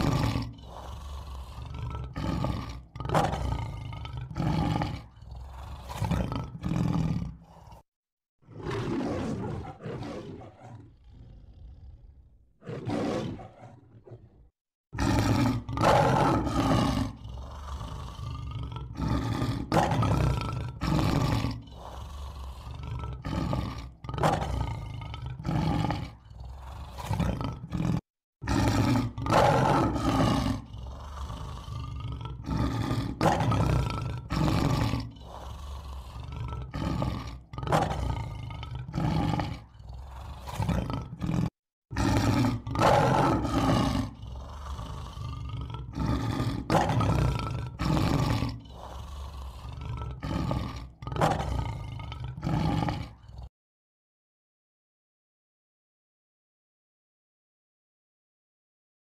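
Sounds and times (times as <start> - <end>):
lion roaring: 0.0 - 53.5.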